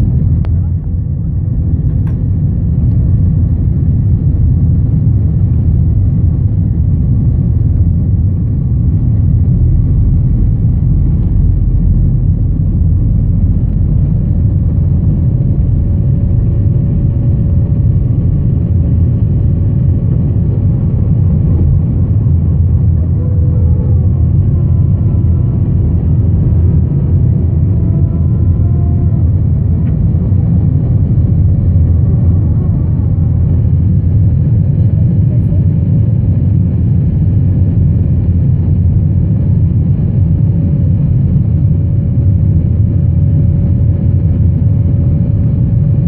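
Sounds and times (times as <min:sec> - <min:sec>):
jet engines rumbling at takeoff: 0:00.0 - 0:46.0.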